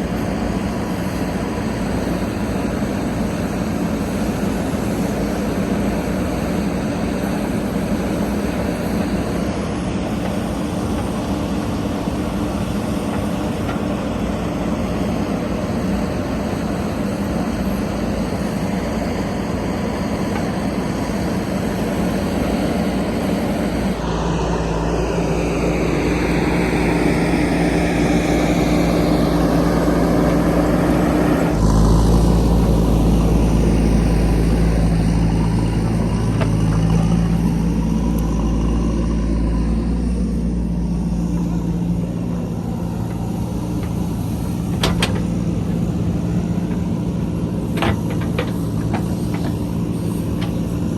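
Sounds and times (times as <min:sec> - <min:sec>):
diesel engine of backhoe loader: 0:00.0 - 0:50.9.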